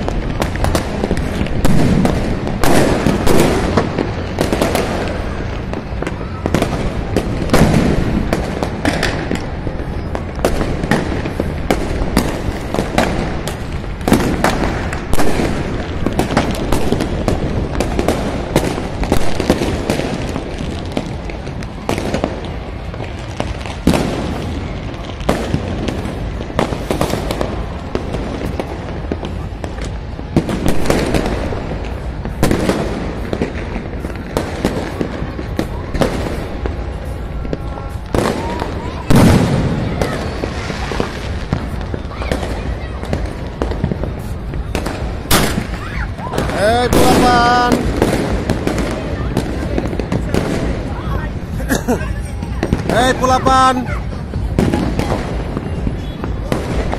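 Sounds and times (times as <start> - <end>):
firecrackers crackling: 0.0 - 56.9
loud firework bangs: 0.0 - 56.9.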